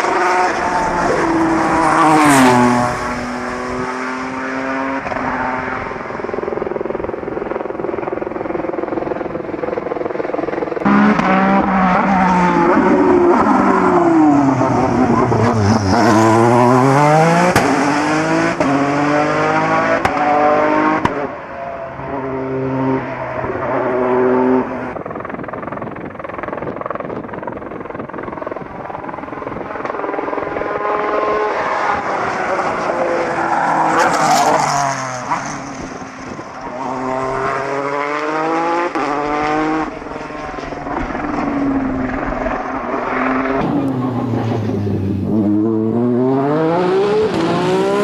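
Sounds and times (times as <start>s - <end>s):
race car engine revving: 0.0s - 25.0s, 29.6s - 48.0s.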